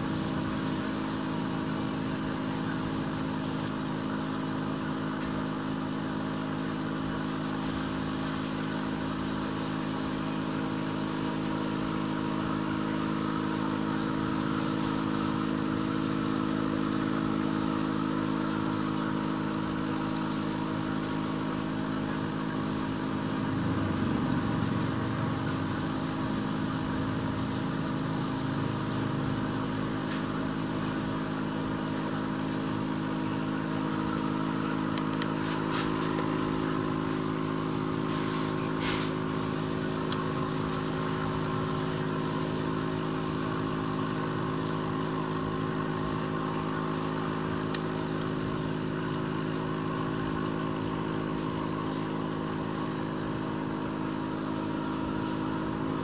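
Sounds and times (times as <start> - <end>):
aquarium air pump humming: 0.0 - 56.0.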